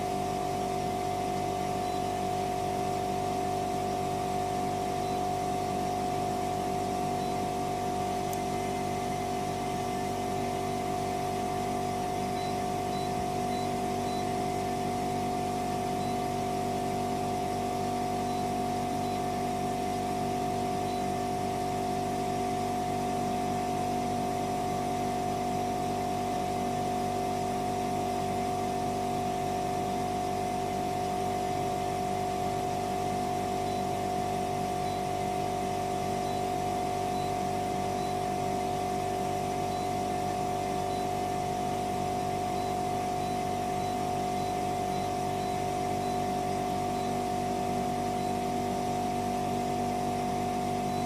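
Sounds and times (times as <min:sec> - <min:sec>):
heat pump humming: 0:00.0 - 0:51.0.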